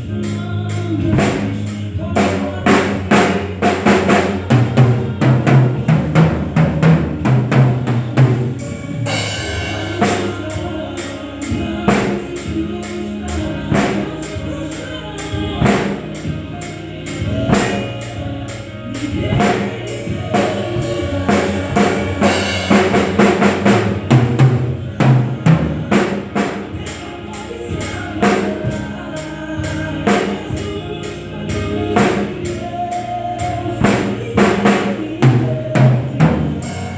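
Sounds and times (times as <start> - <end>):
drum kit steady beat: 0.0 - 36.9
instrumental music with bass notes: 0.0 - 36.9.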